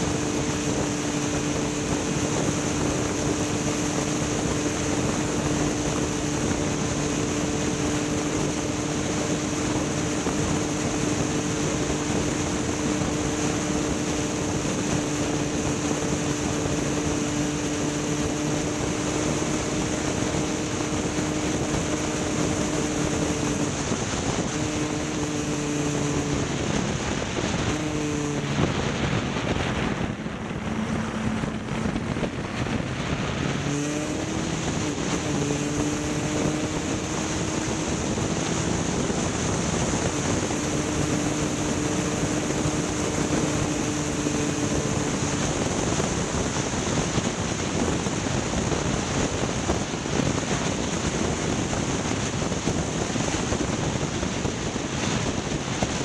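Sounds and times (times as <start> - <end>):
engine running at speed: 0.0 - 56.0
wind rushing: 0.0 - 56.0.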